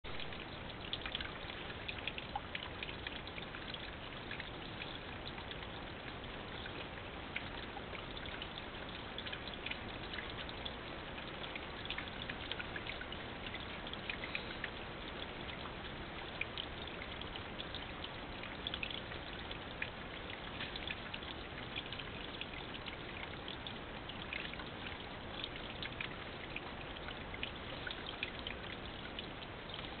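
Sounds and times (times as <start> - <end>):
water drips and splashes: 0.1 - 30.0
water trickling: 0.1 - 30.0.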